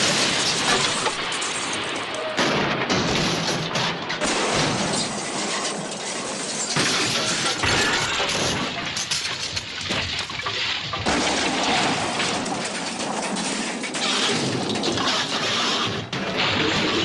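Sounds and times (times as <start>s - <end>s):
booms: 0.0s - 17.0s
crashing and smashing effects: 0.0s - 17.0s.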